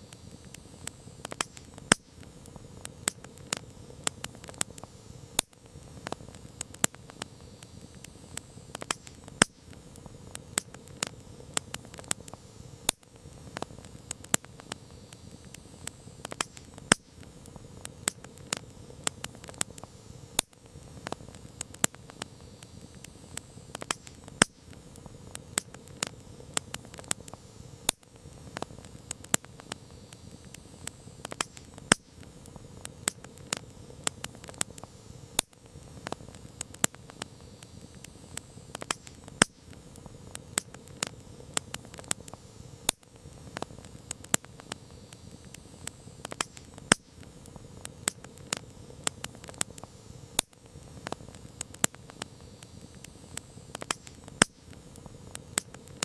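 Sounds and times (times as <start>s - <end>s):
campfire crackling and popping: 0.0s - 56.0s
hiss of burning fire: 0.0s - 56.0s.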